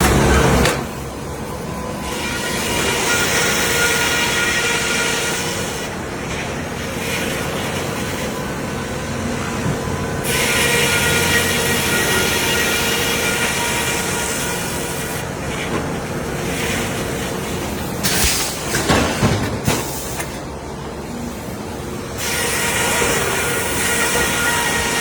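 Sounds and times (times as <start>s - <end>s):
sawmill machinery humming: 0.0s - 18.7s, 19.9s - 25.0s.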